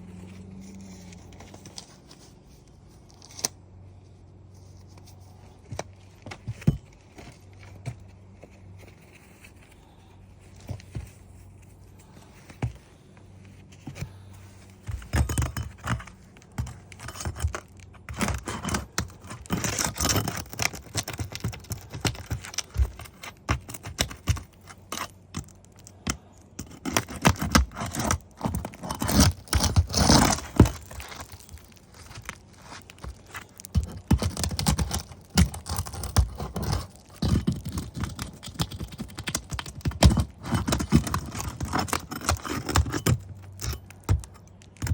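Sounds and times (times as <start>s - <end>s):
roof shingles scraping and crackling: 4.6s - 44.9s.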